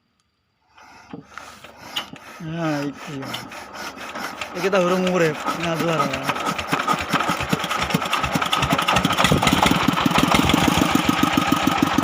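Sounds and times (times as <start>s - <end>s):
diesel engine starting and chugging: 0.7s - 12.0s.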